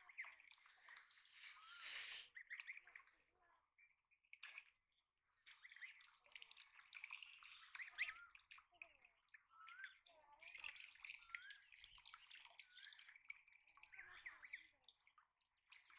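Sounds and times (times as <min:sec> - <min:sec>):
water dripping and splashing: 0:00.0 - 0:15.9.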